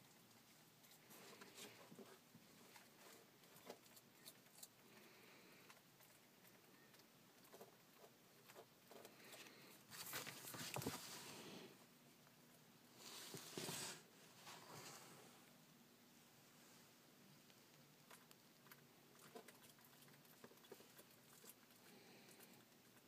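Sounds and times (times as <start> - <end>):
faint ticks and scrapes: 0.0 - 11.6, 12.2 - 15.6, 16.5 - 23.0.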